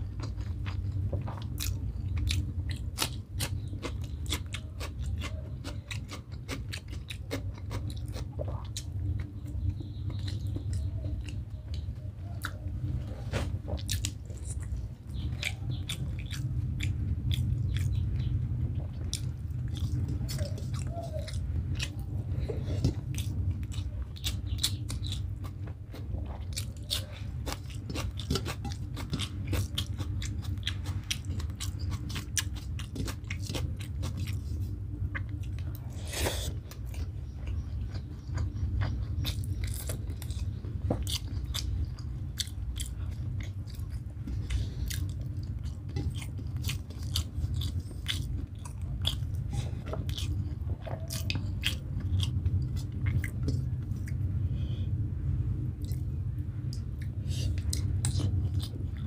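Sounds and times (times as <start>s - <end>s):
wet chewing and mouth smacking: 0.0s - 54.4s, 55.7s - 59.0s
steady low hum: 0.0s - 59.0s.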